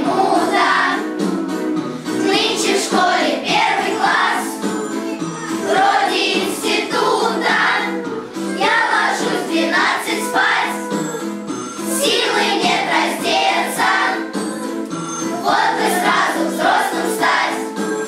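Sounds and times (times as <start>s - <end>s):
children's choir singing: 0.0s - 18.0s
musical accompaniment: 0.0s - 18.0s.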